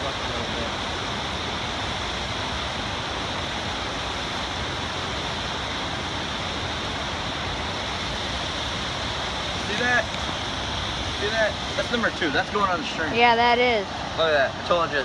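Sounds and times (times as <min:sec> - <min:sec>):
water pouring over a dam: 0:00.0 - 0:13.1.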